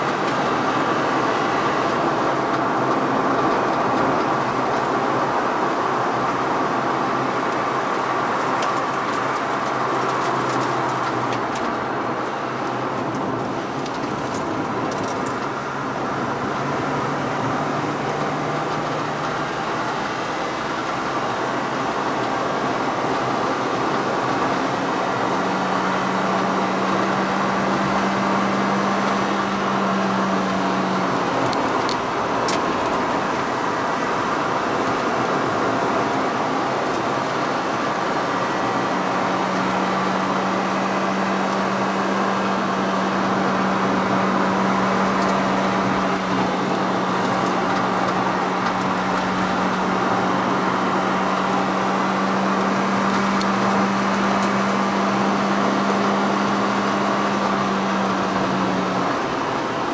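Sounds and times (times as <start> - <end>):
car engine: 0.0 - 59.9
tyre and road noise: 0.0 - 59.9.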